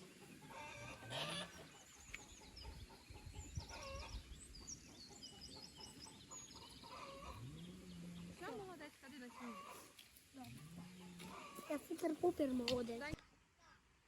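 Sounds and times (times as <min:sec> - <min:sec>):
hen clucking: 0:00.0 - 0:08.6, 0:09.2 - 0:13.0
small birds chirping: 0:00.0 - 0:13.6.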